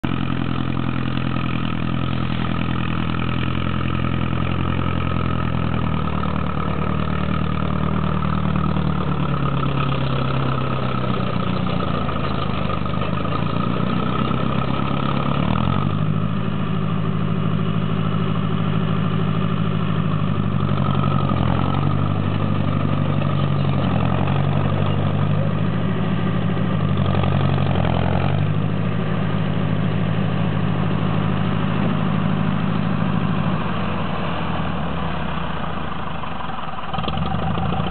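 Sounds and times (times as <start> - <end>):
bulldozer diesel engine under load: 0.0 - 37.9.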